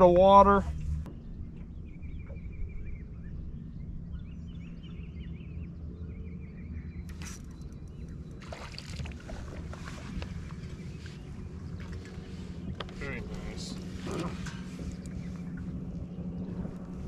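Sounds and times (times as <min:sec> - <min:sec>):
steady low rumble: 0:00.0 - 0:17.0
small birds chirping: 0:00.7 - 0:17.0.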